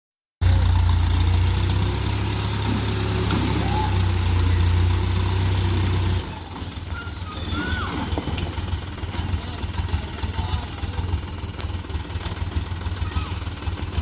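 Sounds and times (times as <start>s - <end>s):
dump truck diesel engine idling: 0.4s - 14.0s.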